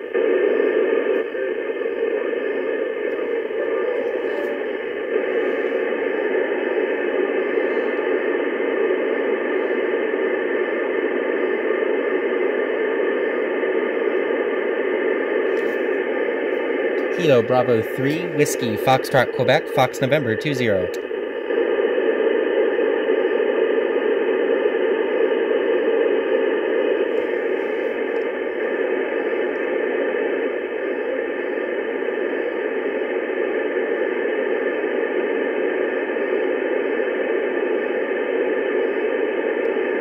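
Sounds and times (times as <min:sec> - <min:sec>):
radio receiver static: 0:00.0 - 0:40.0.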